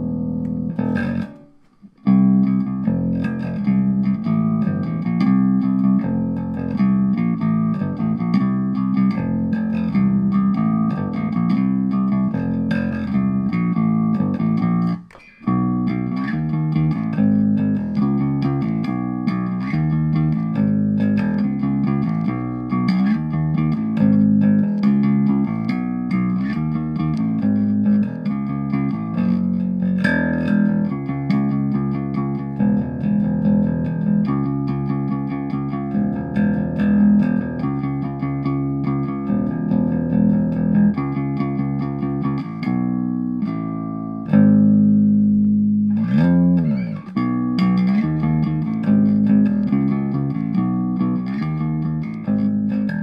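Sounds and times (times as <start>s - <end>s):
electric bass plucked notes: 0.0s - 53.0s.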